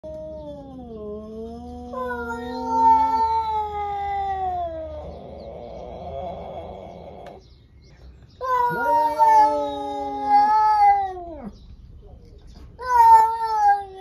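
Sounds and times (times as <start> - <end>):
cats yowling: 0.0 - 7.4, 8.4 - 11.6, 12.8 - 14.0.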